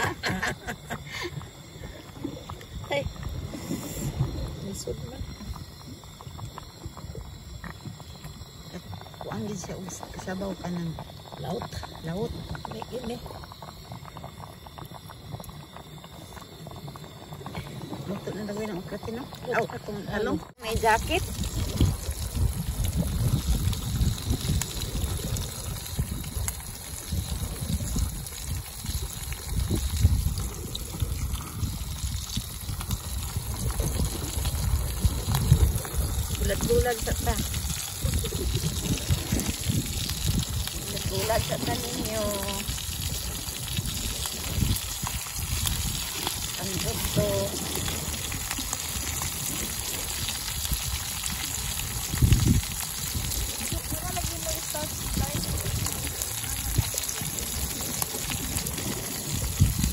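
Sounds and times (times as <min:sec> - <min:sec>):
fish sizzling in oil: 0:00.0 - 0:59.9
water trickling and bubbling: 0:00.0 - 0:59.9
wind rumble on microphone: 0:00.0 - 0:59.9.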